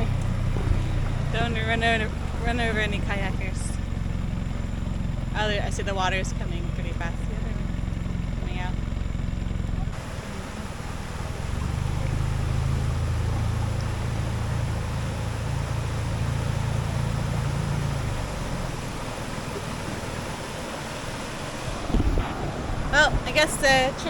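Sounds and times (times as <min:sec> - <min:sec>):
rushing water: 0:00.0 - 0:07.8, 0:09.8 - 0:24.0
outboard motor running: 0:00.0 - 0:24.0
wind: 0:00.0 - 0:24.0.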